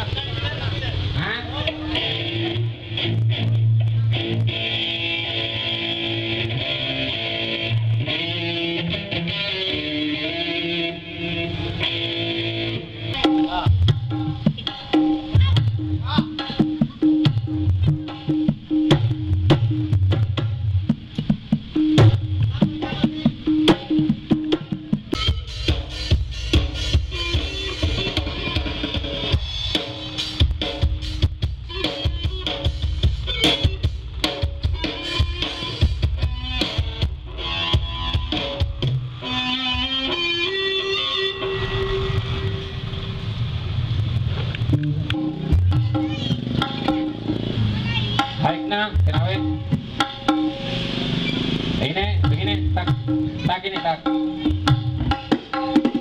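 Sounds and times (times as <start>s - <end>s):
loud band music: 0.0s - 43.5s, 44.7s - 56.0s
electric guitar sustained notes: 1.3s - 14.4s, 21.8s - 55.0s.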